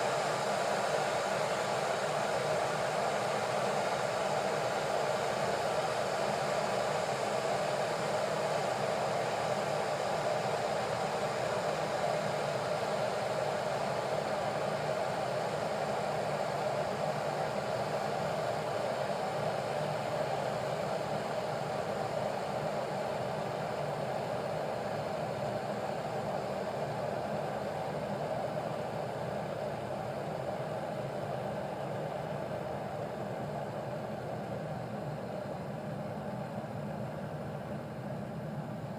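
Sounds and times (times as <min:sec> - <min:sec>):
kettle heating water: 0:00.0 - 0:38.9.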